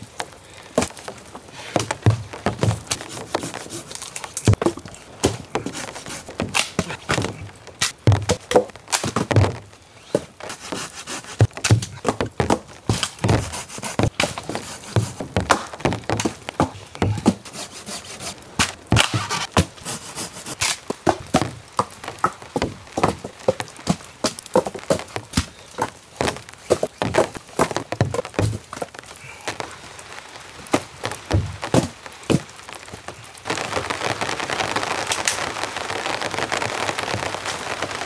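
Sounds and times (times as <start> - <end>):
wooden logs knocking together: 0.0 - 29.8, 30.6 - 33.9.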